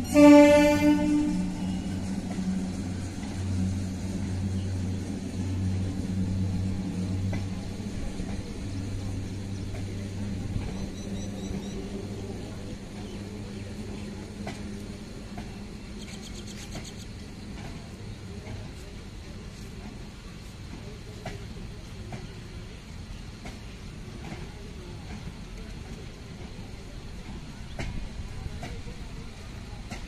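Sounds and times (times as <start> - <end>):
passenger train rumbling past: 0.0 - 30.0.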